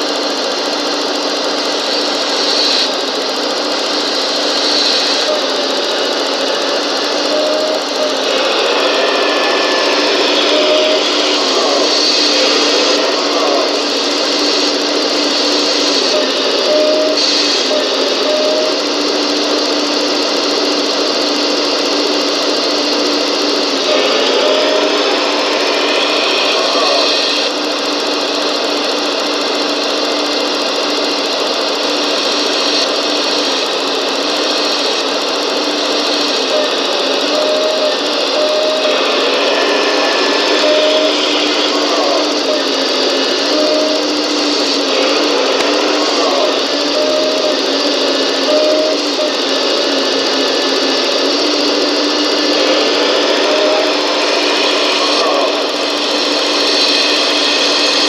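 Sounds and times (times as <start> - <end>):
constant low hum: 0.0 - 58.0
small electric motors whirring: 0.0 - 58.0.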